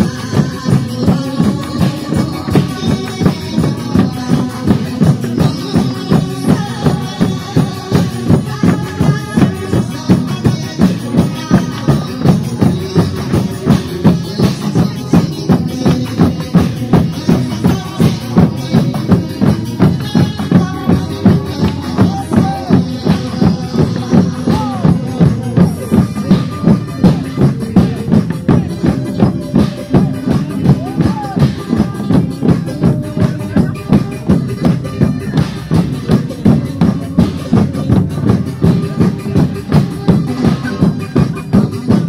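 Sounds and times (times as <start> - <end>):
upbeat dance music: 0.0 - 42.0.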